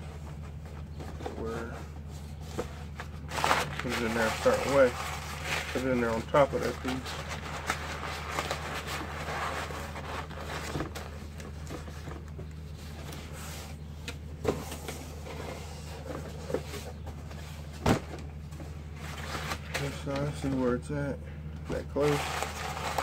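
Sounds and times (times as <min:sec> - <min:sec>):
cardboard and paper rustling: 0:00.0 - 0:20.8, 0:21.6 - 0:23.0
steady low hum: 0:00.0 - 0:23.0.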